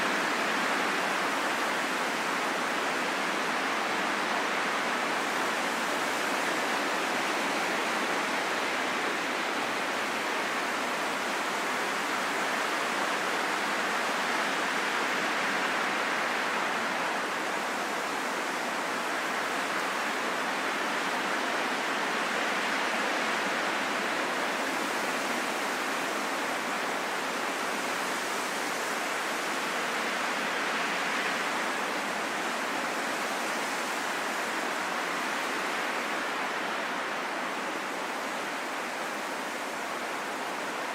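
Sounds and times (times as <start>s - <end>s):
steady wind: 0.0s - 40.9s.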